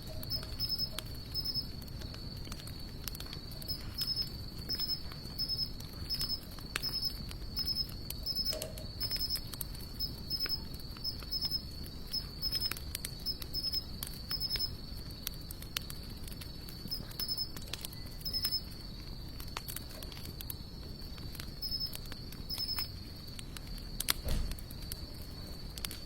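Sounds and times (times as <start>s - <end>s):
campfire crackling and popping: 0.0s - 26.0s
insects trilling: 0.0s - 26.0s.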